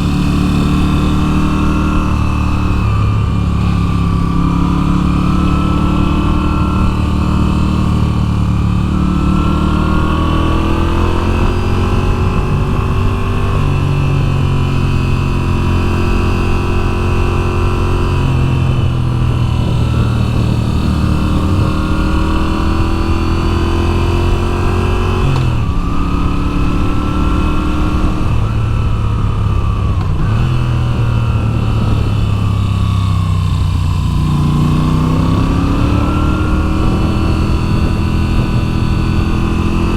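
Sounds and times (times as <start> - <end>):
heavy wind rumble: 0.0 - 39.9
motorcycle engine revving: 0.0 - 39.9.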